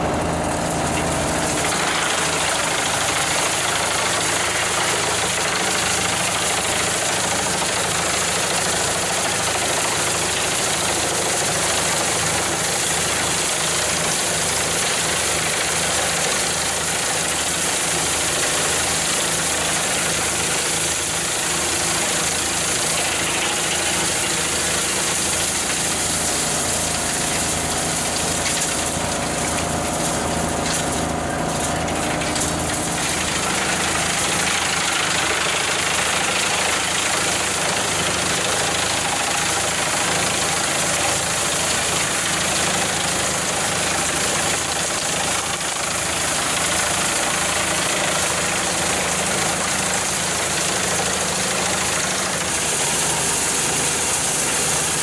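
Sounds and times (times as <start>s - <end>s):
large machine engine running: 0.0s - 55.0s.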